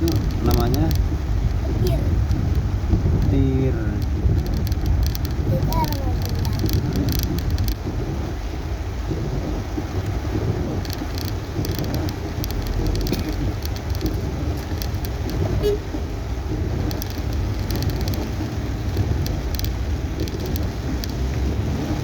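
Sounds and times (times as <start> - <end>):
car road and engine rumble: 0.0 - 22.0
rain ticking on car body: 0.0 - 22.0.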